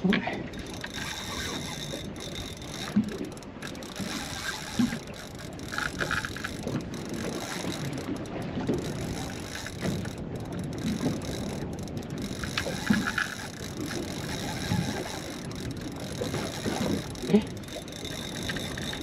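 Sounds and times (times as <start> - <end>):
water around boat: 0.0 - 19.0
wind: 0.0 - 19.0.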